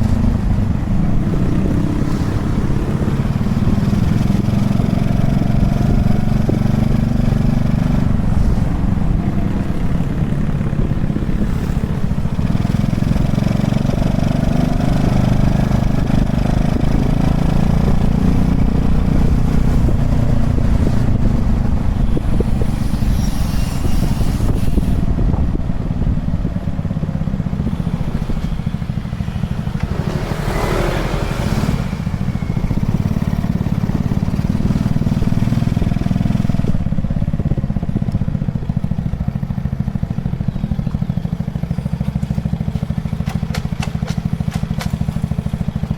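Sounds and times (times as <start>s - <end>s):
small motorbike engine running: 0.0s - 45.9s.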